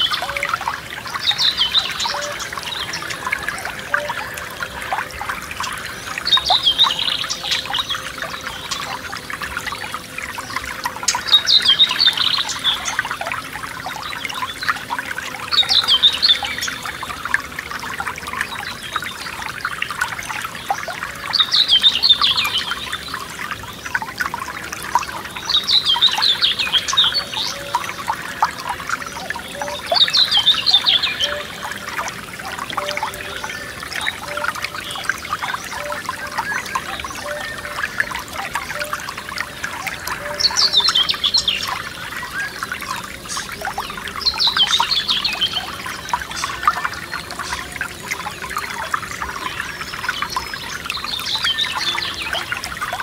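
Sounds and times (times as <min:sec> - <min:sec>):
songbird singing: 0:00.0 - 0:53.0
stream babbling over stones: 0:00.0 - 0:53.0.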